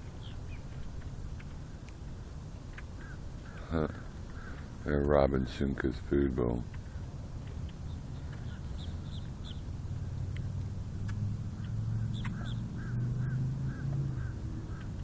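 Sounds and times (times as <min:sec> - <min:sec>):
flock of birds chirping: 0:00.0 - 0:15.0.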